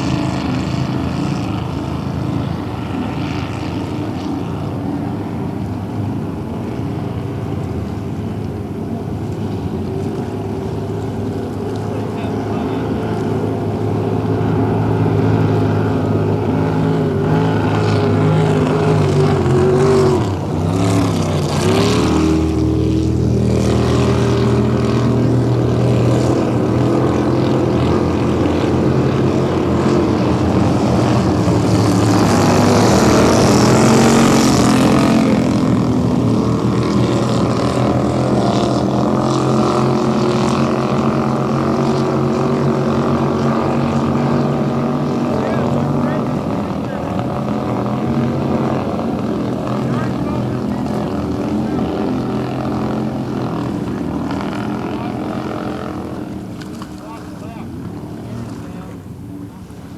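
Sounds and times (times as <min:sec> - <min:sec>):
motorboat engines running hard: 0:00.0 - 0:59.9.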